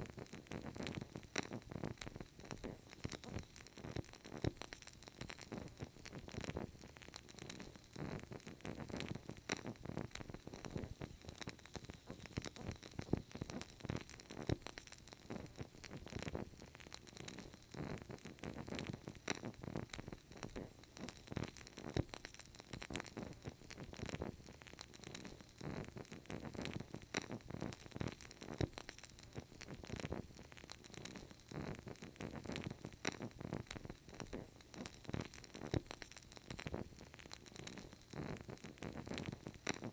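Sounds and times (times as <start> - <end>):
candle crackling and popping: 0.0 - 39.9
soft steady hiss: 0.0 - 39.9.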